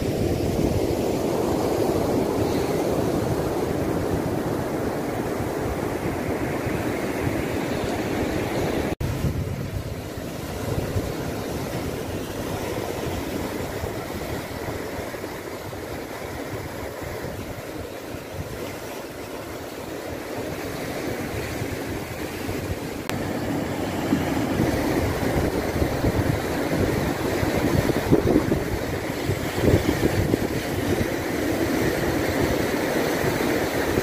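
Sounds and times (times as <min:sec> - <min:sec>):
surf breaking over rocks: 0:00.0 - 0:34.0
wind on microphone: 0:00.0 - 0:34.0.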